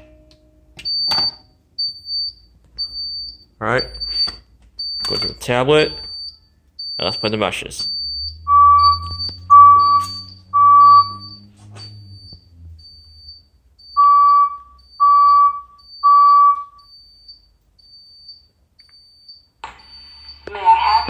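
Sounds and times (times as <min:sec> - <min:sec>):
alert beeps in threes: 0:00.8 - 0:21.0.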